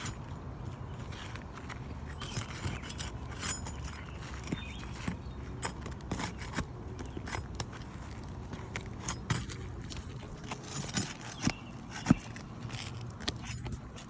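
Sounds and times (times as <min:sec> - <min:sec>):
hand tools clicking and scraping: 0:00.0 - 0:14.0.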